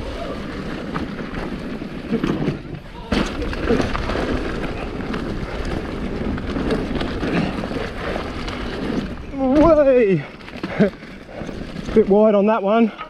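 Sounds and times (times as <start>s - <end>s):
bike tyres rolling on dirt: 0.0s - 13.0s
bike knocks and rattles: 0.2s - 13.0s.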